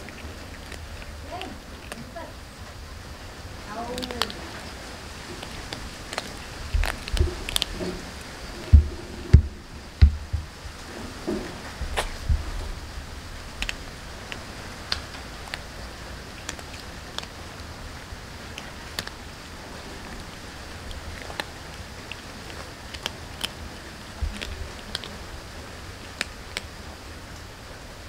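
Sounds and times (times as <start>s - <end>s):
cats crunching dry kibble: 0.0s - 27.8s
faint low rumble: 0.0s - 28.0s.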